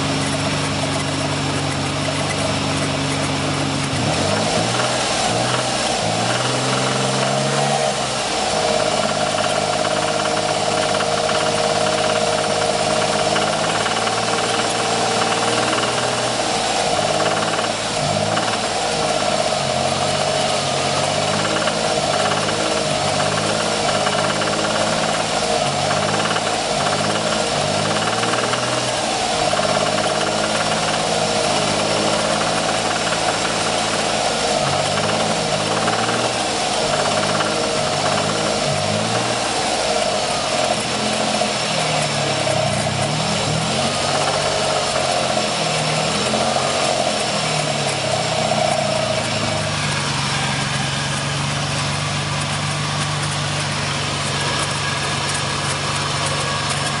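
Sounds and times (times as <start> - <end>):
rapid engine knock: 0.0 - 7.7, 8.3 - 57.0
engine revving and idling: 0.0 - 57.0.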